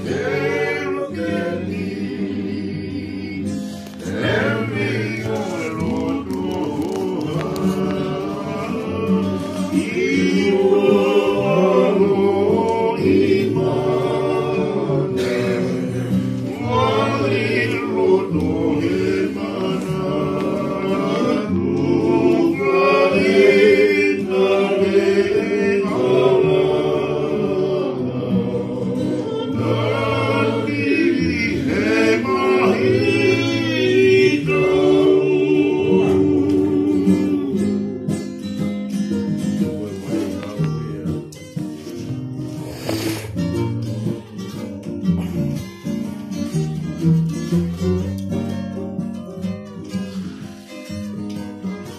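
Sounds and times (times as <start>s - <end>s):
group singing: 0.0s - 44.2s
strummed acoustic guitar: 0.0s - 51.9s.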